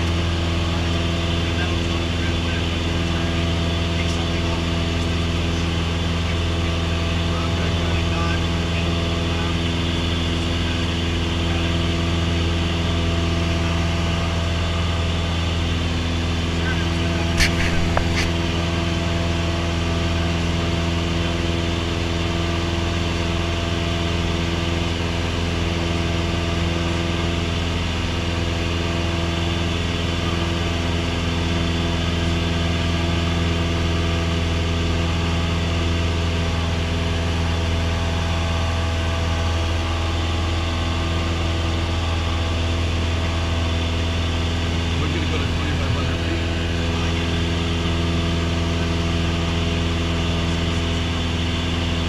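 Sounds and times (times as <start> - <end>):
light airplane engine droning: 0.0 - 52.0.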